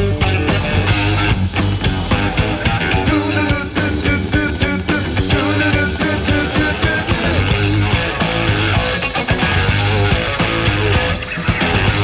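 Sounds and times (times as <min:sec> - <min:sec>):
bass and drums: 0:00.0 - 0:12.0
electric guitar lines: 0:00.0 - 0:12.0.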